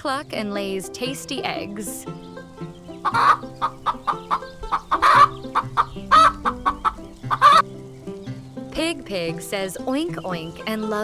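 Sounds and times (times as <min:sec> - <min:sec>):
light background music: 0:00.0 - 0:11.0
chicken clucking: 0:01.2 - 0:11.0.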